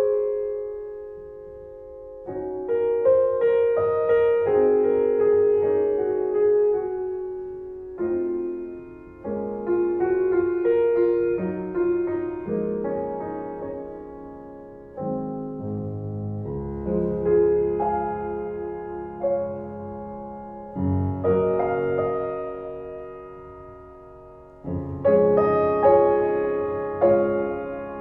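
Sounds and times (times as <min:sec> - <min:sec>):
piano notes and chords: 0:00.0 - 0:28.0.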